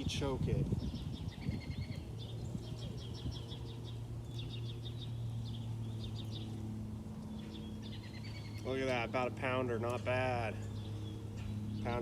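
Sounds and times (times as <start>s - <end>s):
songbirds singing trills: 0.0s - 12.0s
steady low hum: 0.0s - 12.0s.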